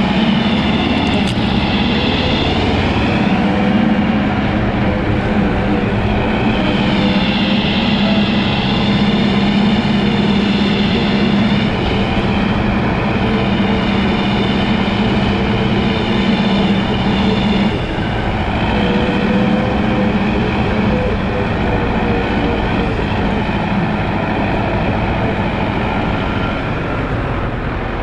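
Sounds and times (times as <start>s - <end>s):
high wavering whine: 0.0s - 27.3s
dump truck diesel engine running: 0.0s - 28.0s.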